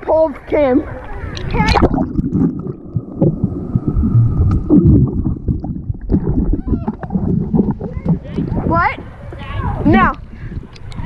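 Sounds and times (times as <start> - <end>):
water churning and splashing: 0.6 - 11.0
underwater low rumble: 0.8 - 11.0.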